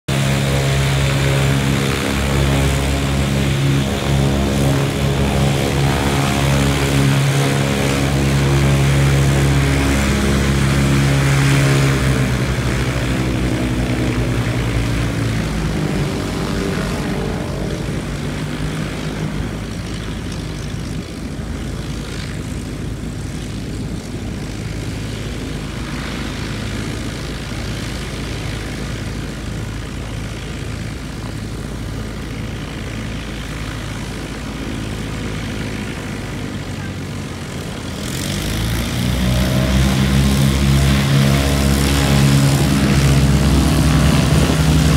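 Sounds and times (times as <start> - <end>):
distant light aircraft drone: 0.0 - 44.9
radial aircraft engine running: 0.0 - 44.9
twin aircraft engines taxiing: 0.0 - 44.9.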